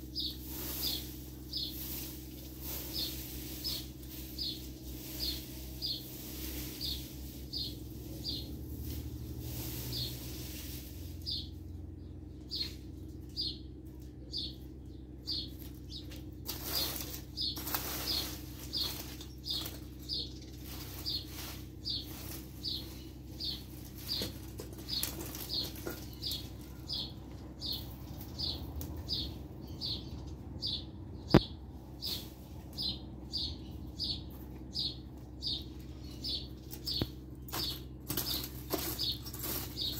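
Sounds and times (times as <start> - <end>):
rake scraping over dirt: 0.0 - 11.9, 15.3 - 30.0, 32.0 - 33.0, 34.3 - 39.9.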